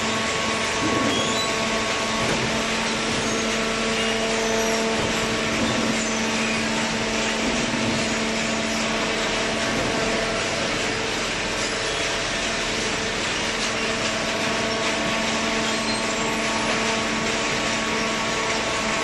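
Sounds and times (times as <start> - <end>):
baling machine humming: 0.0 - 19.0.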